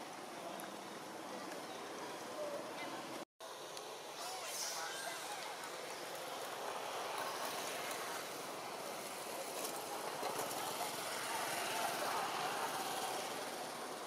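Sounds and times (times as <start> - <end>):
distant traffic hum: 0.0 - 14.0.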